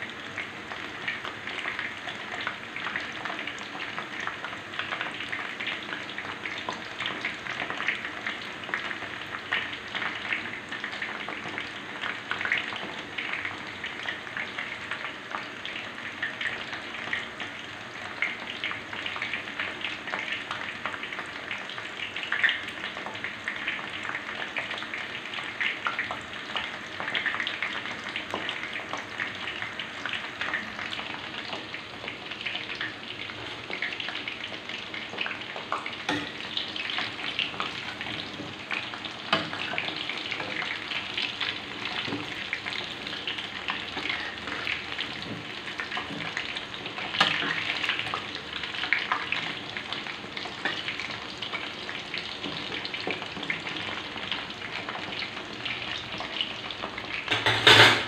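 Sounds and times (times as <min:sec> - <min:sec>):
food deep-frying in oil: 0:00.0 - 0:58.0.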